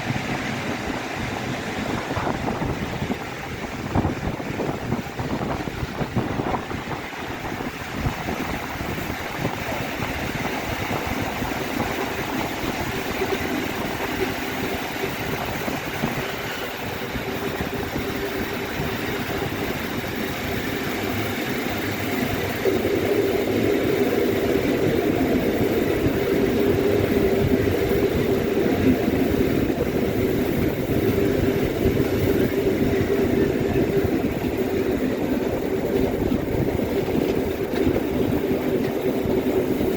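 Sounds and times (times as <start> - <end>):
passenger train rumbling on rails: 0.0 - 39.9.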